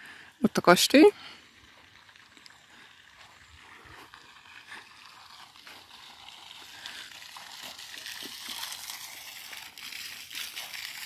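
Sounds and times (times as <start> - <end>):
footsteps on grass and gravel: 1.7 - 11.0.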